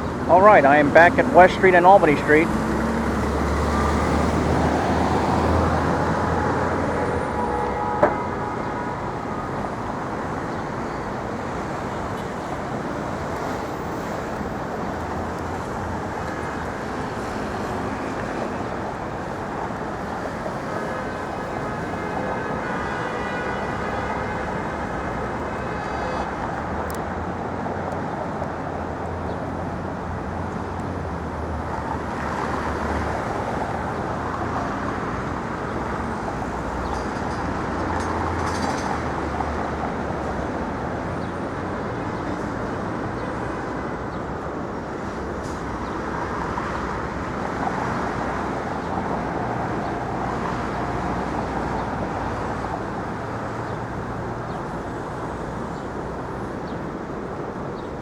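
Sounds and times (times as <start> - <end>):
street traffic noise: 0.0 - 58.0.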